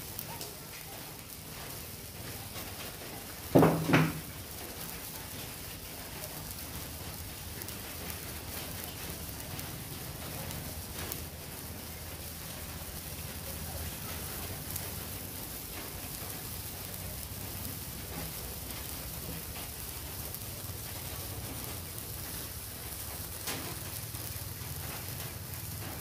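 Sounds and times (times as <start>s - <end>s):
sparklers fizzing and crackling: 0.0s - 26.0s.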